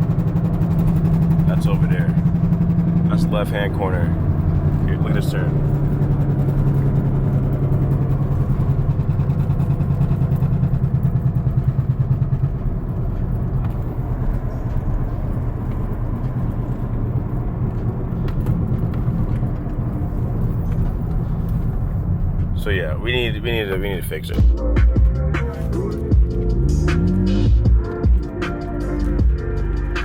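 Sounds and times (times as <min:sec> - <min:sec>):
road noise: 0:00.0 - 0:30.0
wheel bearing droning: 0:00.0 - 0:30.0.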